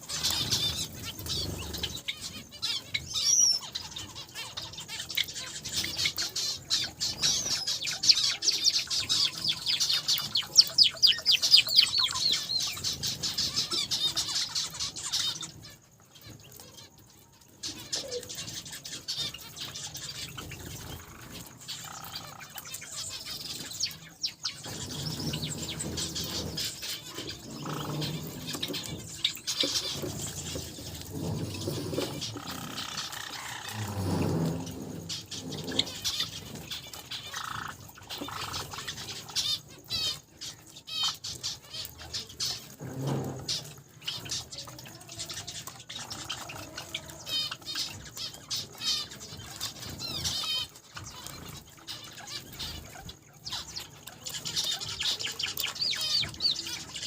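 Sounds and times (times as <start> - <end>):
small finches chirping: 0.0 - 57.0
wings fluttering: 0.0 - 57.0.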